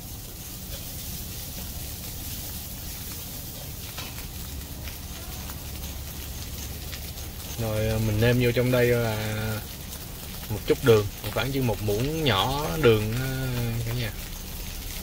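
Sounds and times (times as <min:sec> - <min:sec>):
rice sizzling in a hot pan: 0:00.0 - 0:15.0.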